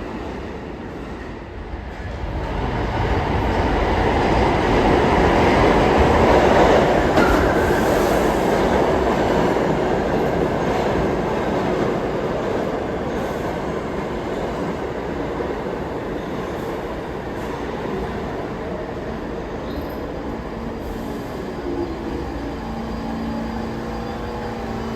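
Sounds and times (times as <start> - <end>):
subway train rumbling on rails: 0.0 - 24.9.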